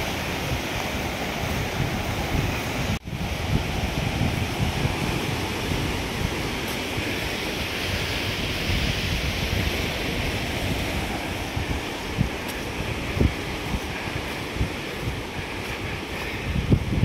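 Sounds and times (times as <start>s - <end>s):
ocean surf on rocky shore: 0.0s - 17.0s
wind buffeting microphone: 0.0s - 17.0s.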